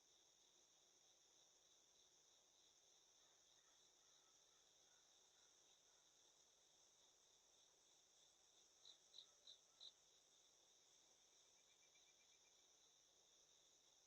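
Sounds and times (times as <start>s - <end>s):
insect buzz: 0.0s - 14.0s
insect chirps: 0.0s - 14.0s.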